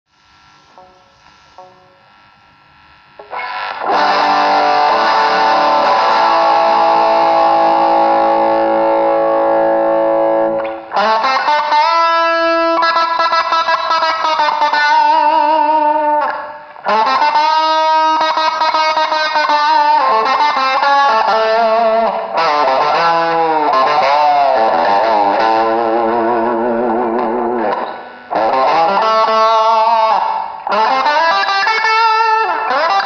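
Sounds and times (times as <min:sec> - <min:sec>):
overdriven electric guitar: 0:00.1 - 0:33.0.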